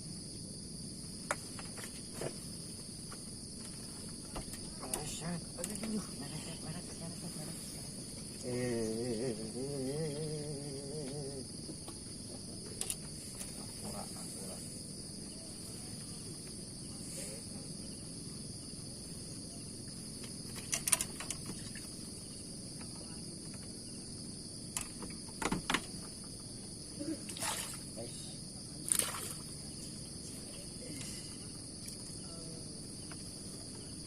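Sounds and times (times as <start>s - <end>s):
insect chorus: 0.0s - 34.0s
low background hum: 0.0s - 34.0s.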